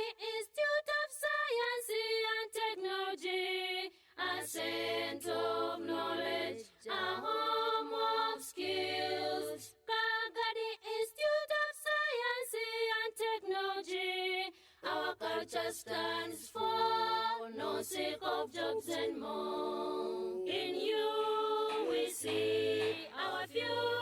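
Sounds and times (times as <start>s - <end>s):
unaccompanied voices singing in harmony: 0.0s - 24.0s.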